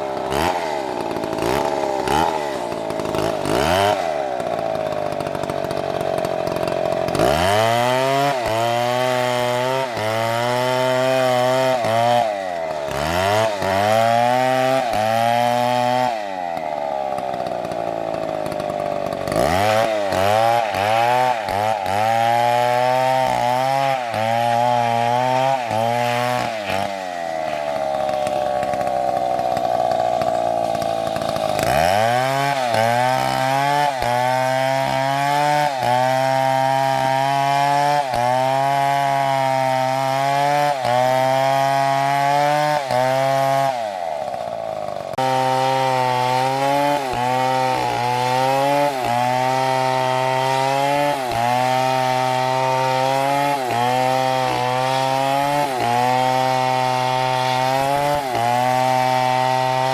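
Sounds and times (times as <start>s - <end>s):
chainsaw cutting: 0.0s - 59.9s.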